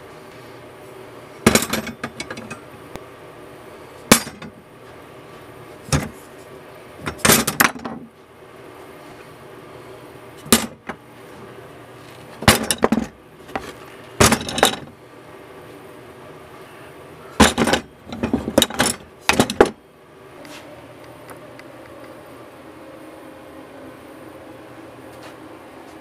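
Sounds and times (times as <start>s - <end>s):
faint room hum: 0.0s - 26.0s.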